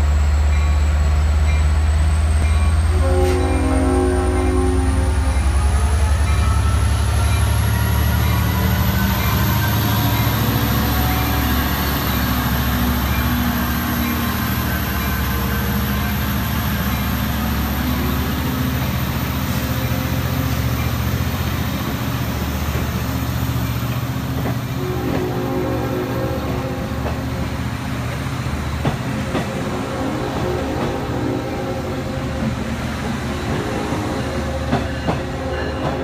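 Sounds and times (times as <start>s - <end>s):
diesel train engine drone: 0.0s - 36.0s
train coaches rumbling: 0.0s - 36.0s.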